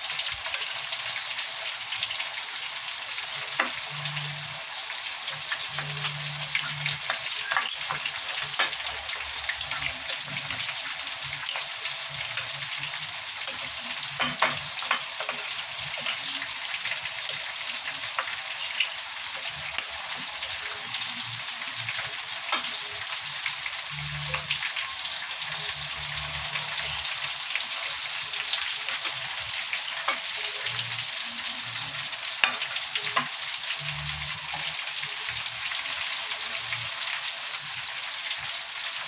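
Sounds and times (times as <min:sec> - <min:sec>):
chicken deep-frying in oil: 0:00.0 - 0:39.0.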